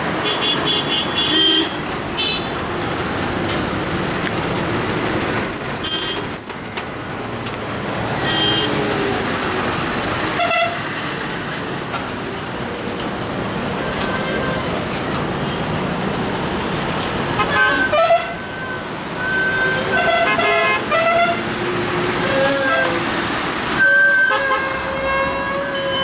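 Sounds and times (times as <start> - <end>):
harvester and truck engines running: 1.8 - 25.4.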